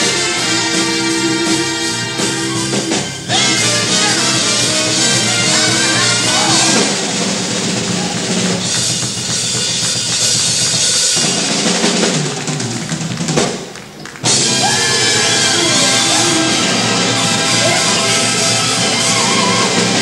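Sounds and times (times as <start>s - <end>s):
horns and trumpets playing blues: 0.0s - 20.0s
snare and bass drum: 0.0s - 20.0s.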